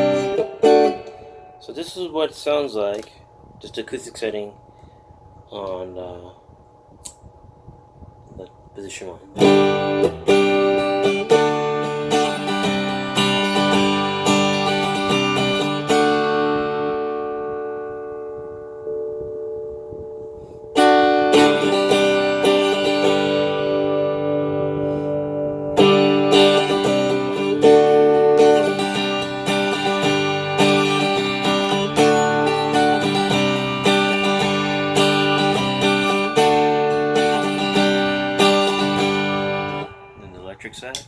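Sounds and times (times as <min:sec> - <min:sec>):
electric-acoustic guitar strummed chords: 0:00.0 - 0:02.4, 0:09.3 - 0:40.5.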